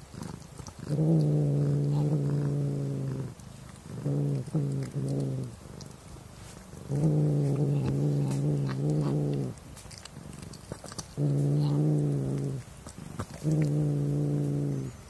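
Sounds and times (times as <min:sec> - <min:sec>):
cat growling low: 0:00.0 - 0:15.0.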